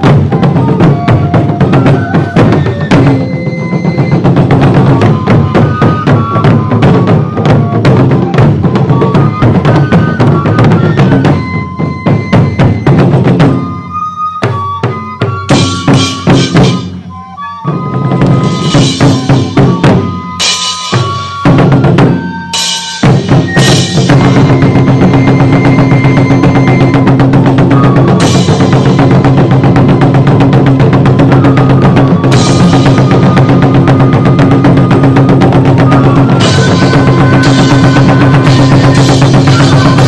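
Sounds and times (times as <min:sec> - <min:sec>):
taiko drums beating: 0:00.0 - 0:40.0.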